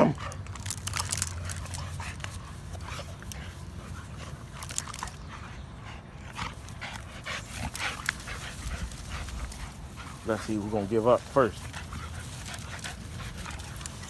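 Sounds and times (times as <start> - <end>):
dog panting hard: 0.0 - 14.0.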